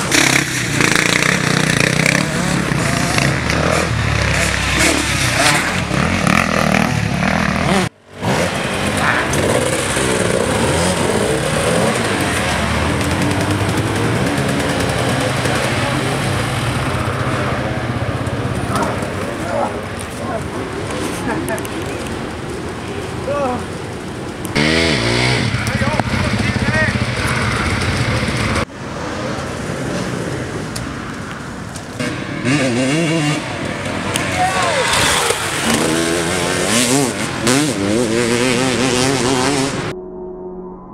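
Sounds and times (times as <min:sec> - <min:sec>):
distant dirt bike engine: 0:00.0 - 0:21.5, 0:23.2 - 0:30.6, 0:31.9 - 0:40.0
dirt bike engines revving: 0:00.0 - 0:39.9.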